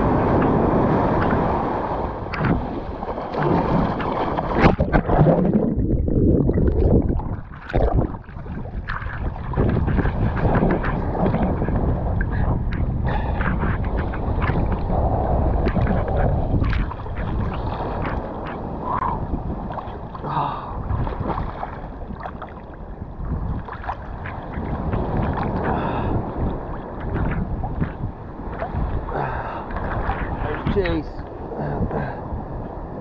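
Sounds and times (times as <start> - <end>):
water sloshing and splashing: 0.0 - 32.3
wind rumble on microphone: 0.0 - 33.0.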